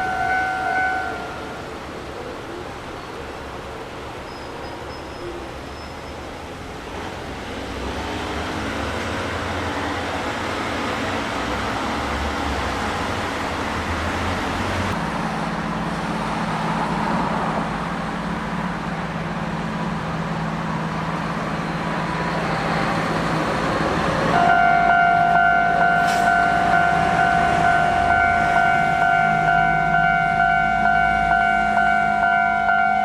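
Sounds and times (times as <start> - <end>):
train wheels rumbling on rail: 0.0 - 32.4.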